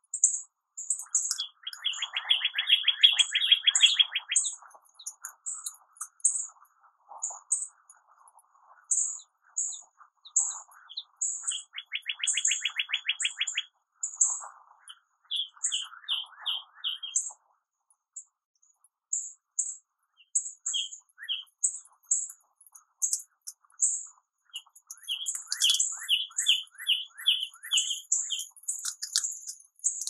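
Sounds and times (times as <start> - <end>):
small birds chirping: 0.0 - 30.0
bird trill: 0.1 - 6.6, 8.9 - 17.4, 19.1 - 30.0.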